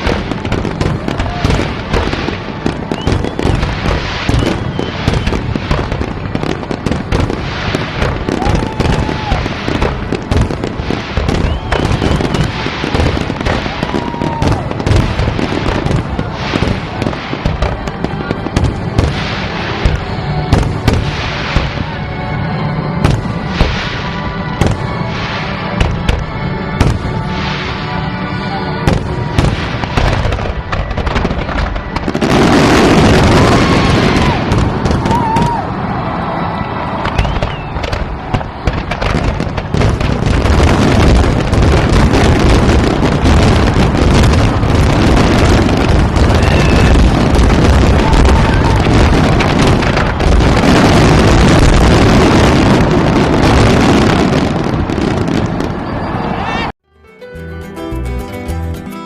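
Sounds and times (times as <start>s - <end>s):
fireworks booming: 0.0s - 22.1s, 23.0s - 28.1s, 28.8s - 56.8s
fireworks crackling volley: 0.0s - 56.8s.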